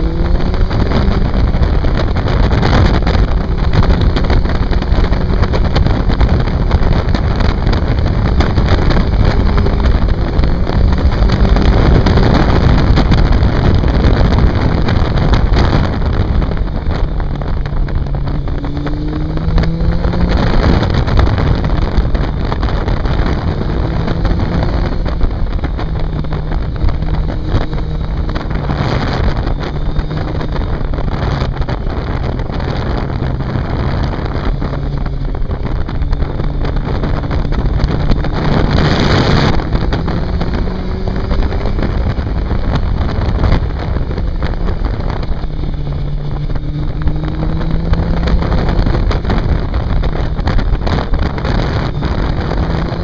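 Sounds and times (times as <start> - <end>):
motorcycle engine accelerating: 0.0 - 53.0
wind noise on microphone: 0.0 - 53.0.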